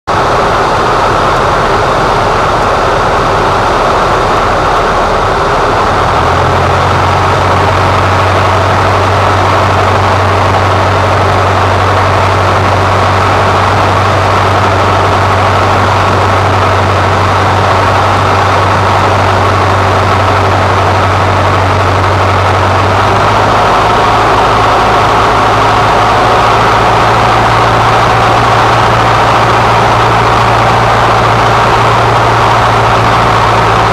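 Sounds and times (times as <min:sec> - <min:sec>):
plane engine and propeller droning: 0:00.1 - 0:33.9.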